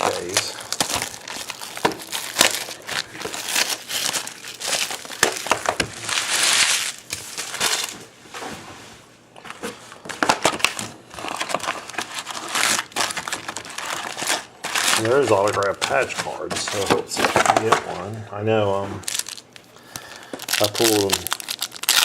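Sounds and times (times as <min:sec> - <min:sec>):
plastic wrapping tearing: 0:00.0 - 0:08.0, 0:10.2 - 0:17.7, 0:19.0 - 0:22.0
plastic wrapping crinkling: 0:00.0 - 0:08.1, 0:09.9 - 0:18.1, 0:19.0 - 0:22.0.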